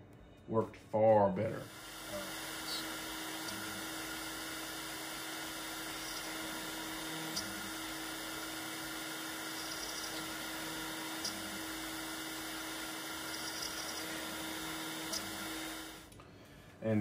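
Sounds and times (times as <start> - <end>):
router spindle cutting metal: 1.8 - 16.0.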